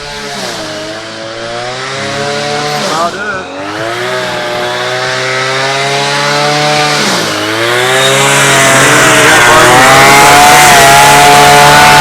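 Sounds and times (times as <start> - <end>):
string trimmer engine running: 0.0 - 12.0.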